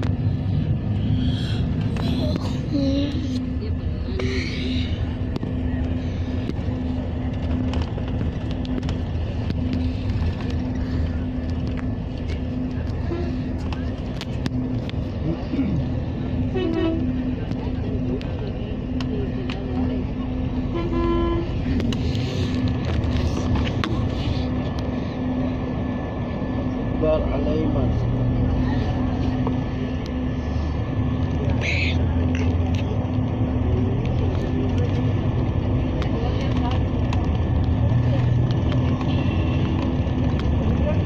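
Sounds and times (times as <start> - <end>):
bus engine rumble: 0.0 - 41.0
constant hum: 0.0 - 41.0.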